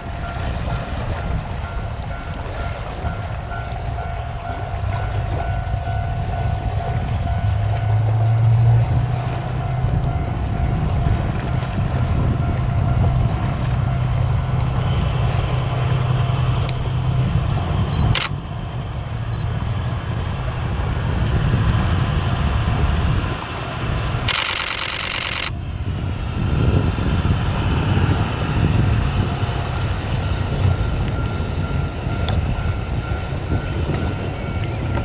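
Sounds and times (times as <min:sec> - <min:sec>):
locomotive engine rumbling: 0:00.0 - 0:35.0.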